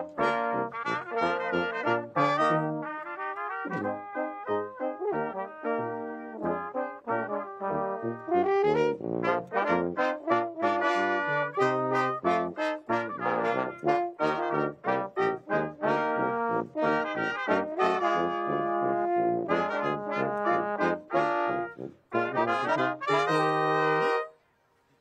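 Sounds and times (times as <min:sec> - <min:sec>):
brass band playing: 0:00.0 - 0:24.3.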